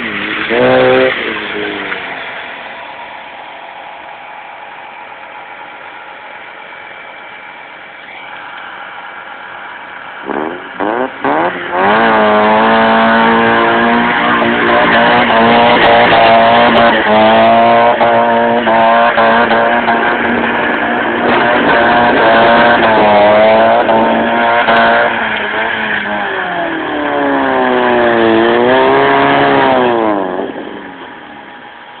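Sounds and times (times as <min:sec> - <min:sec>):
car engine revving hard: 0:00.0 - 0:32.0.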